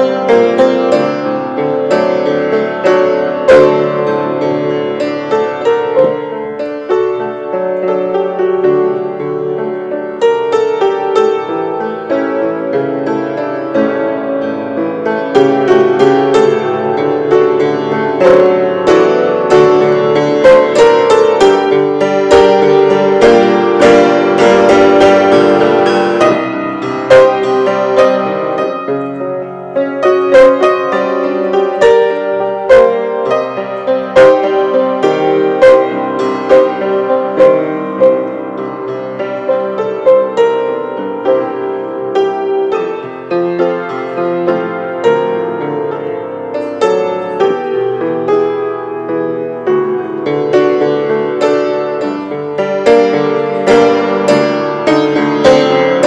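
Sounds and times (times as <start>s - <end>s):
grand piano playing a hymn: 0.0s - 56.0s.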